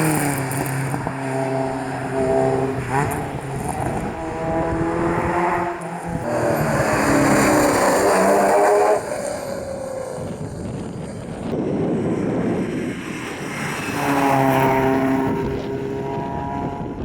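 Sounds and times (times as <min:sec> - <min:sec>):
rally car engine revving hard: 0:00.0 - 0:17.0
road noise: 0:00.0 - 0:17.0.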